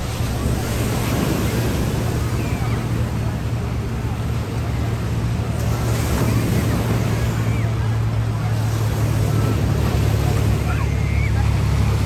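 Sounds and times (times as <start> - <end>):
faint distant voices: 0.0 - 12.0
ocean surf washing: 0.0 - 12.0
wind rumbling on microphone: 0.0 - 12.0.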